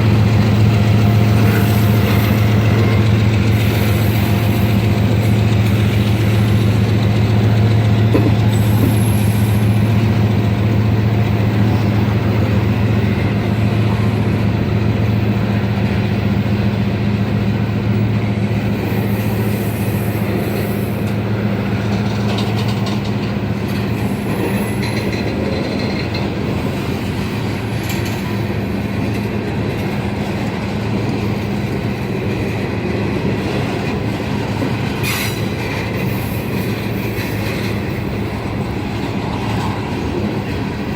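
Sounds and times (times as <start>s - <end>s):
train rolling on rails: 0.0s - 40.9s.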